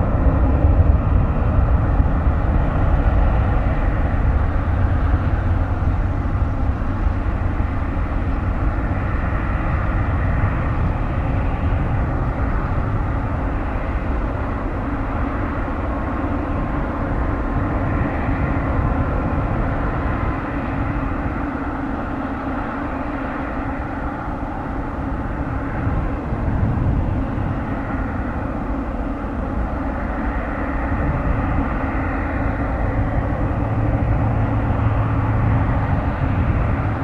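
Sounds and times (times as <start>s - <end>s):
jet engines on takeoff roll: 0.0s - 37.0s.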